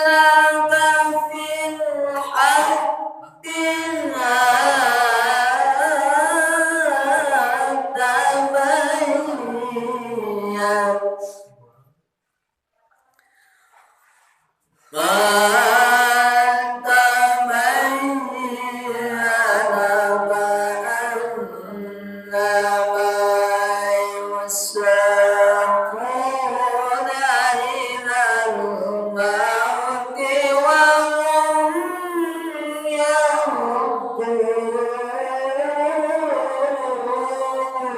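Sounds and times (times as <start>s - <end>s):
person chanting unaccompanied: 0.0s - 11.8s, 14.9s - 37.9s.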